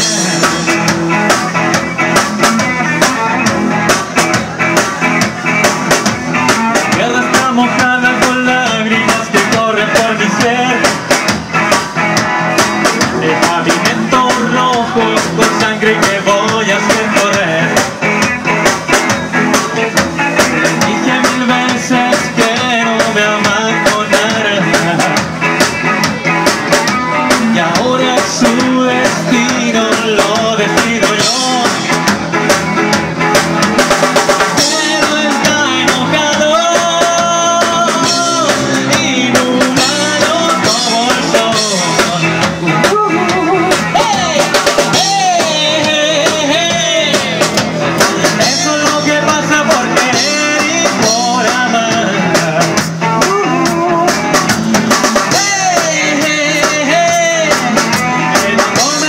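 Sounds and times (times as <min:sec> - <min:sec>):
drum kit: 0:00.0 - 0:59.0
electric bass: 0:00.0 - 0:59.0
electric guitars: 0:00.0 - 0:59.0.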